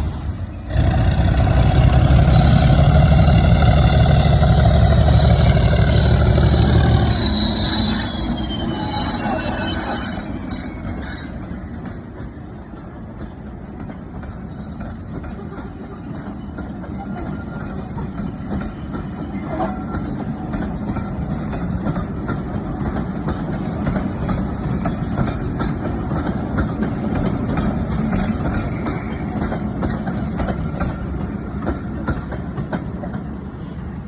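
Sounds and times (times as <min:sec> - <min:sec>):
diesel locomotive engine: 0:00.0 - 0:34.0
wheels clicking over rail joints: 0:01.2 - 0:33.8.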